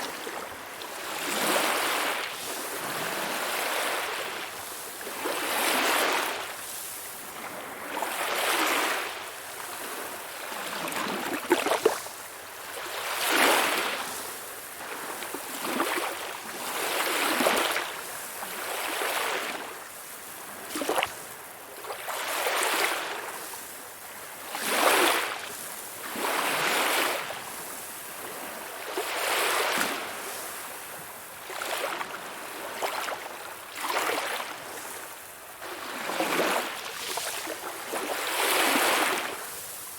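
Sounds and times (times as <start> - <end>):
calm sea waves washing: 0.0 - 39.9.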